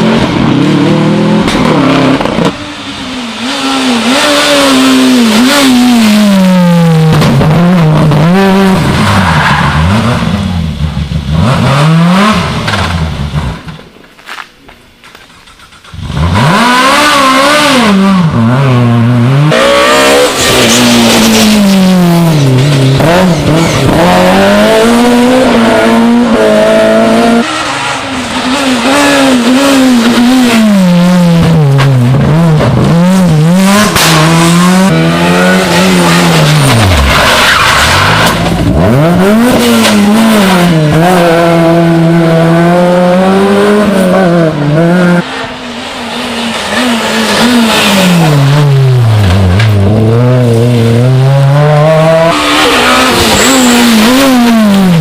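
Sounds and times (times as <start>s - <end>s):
rally car engine revving: 0.0s - 13.9s, 15.9s - 55.0s.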